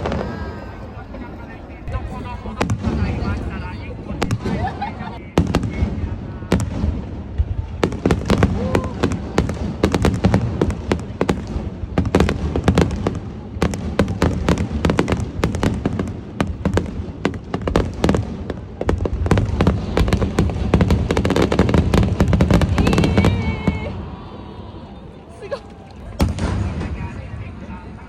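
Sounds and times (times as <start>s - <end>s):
fireworks bursting and crackling: 0.0s - 24.2s, 25.2s - 28.0s.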